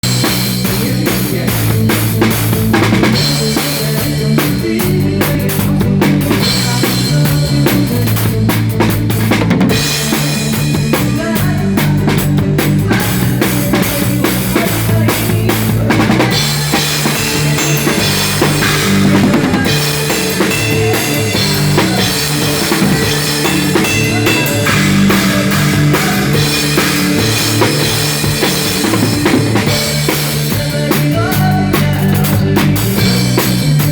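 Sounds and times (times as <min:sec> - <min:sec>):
bass line: 0:00.0 - 0:33.9
rock drum kit playing: 0:00.0 - 0:33.9.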